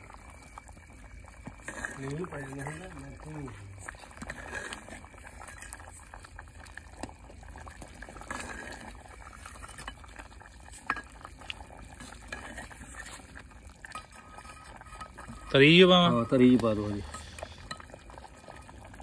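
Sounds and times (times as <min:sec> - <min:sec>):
curry bubbling in a pot: 0:00.0 - 0:19.0
metal ladle scraping and stirring: 0:01.4 - 0:19.0.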